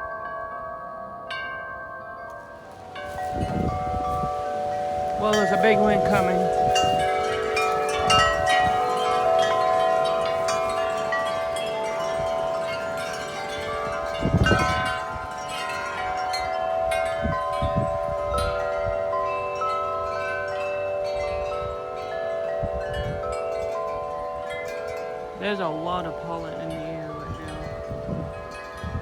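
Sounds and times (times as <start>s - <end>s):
metal tube wind chimes ringing: 0.0s - 29.0s
strong wind: 2.5s - 29.0s.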